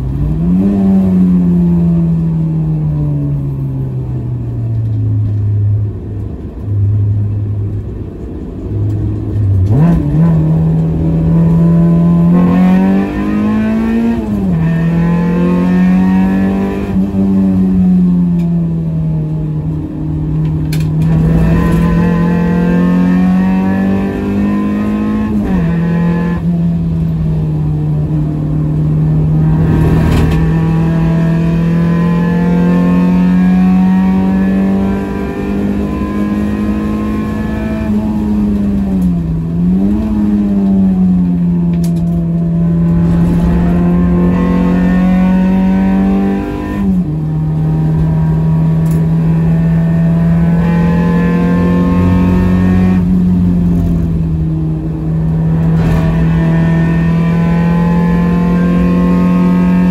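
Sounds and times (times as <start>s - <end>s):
car engine at high revs: 0.0s - 59.9s
road and tyre noise: 0.0s - 59.9s.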